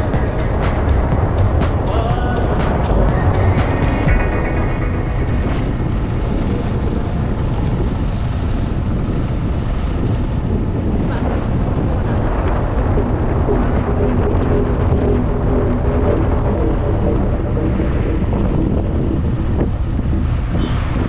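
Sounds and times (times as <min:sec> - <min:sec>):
road noise: 0:00.0 - 0:21.0
wind rush on microphone: 0:00.0 - 0:21.0.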